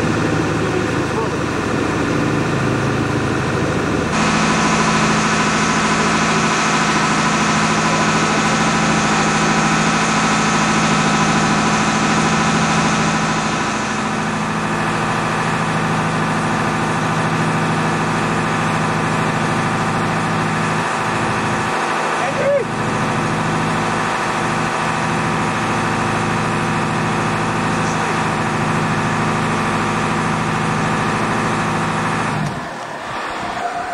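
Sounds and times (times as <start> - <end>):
boat engine humming: 0.0 - 33.9.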